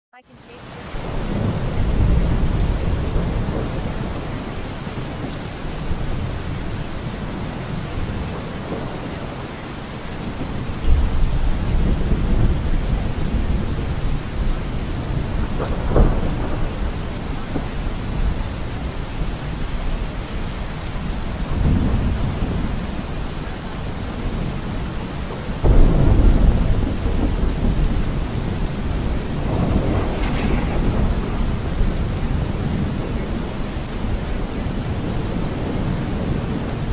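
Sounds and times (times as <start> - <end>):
steady rain falling: 0.2 - 36.9
thunder rumbling: 0.8 - 36.9.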